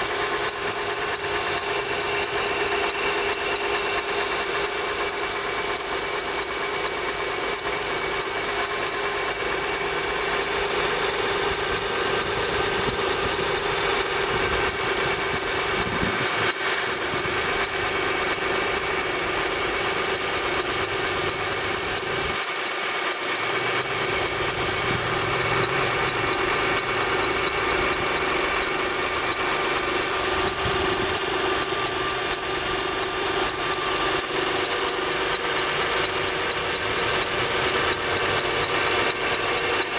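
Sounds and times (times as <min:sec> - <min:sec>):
engine ticking knock: 0:00.0 - 0:39.9.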